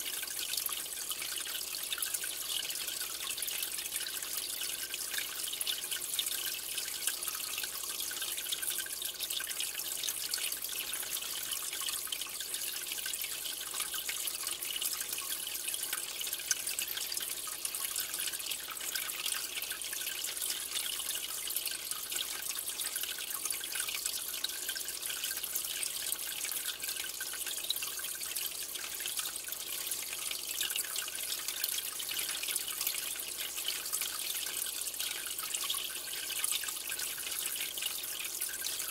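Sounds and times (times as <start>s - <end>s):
aquarium water bubbling: 0.0s - 38.9s.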